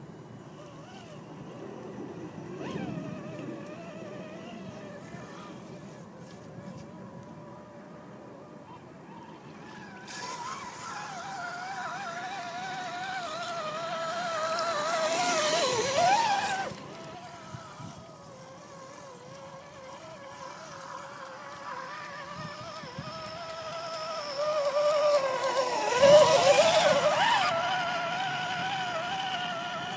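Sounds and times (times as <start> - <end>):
rc car motor and gear whine: 0.0 - 29.9.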